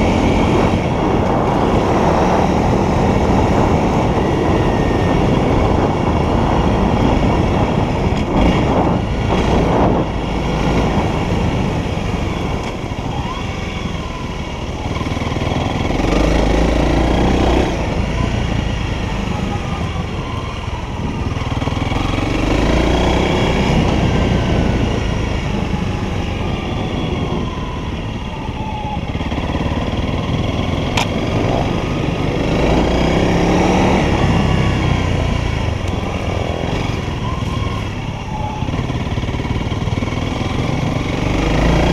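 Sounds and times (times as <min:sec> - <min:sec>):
motorcycle engine revving: 0:00.0 - 0:41.9
wind rush on microphone: 0:00.0 - 0:41.9.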